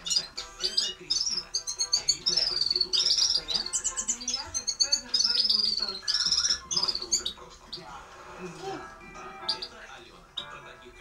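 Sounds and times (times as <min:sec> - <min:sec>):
bird twittering song: 0:00.0 - 0:08.0, 0:09.2 - 0:10.8.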